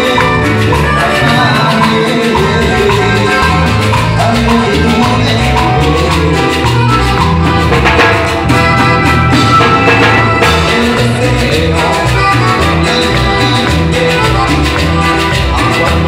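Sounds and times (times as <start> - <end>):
live band playing latin dance music: 0.0 - 16.0
percussion beat: 0.0 - 16.0
stepping bass line: 0.0 - 16.0.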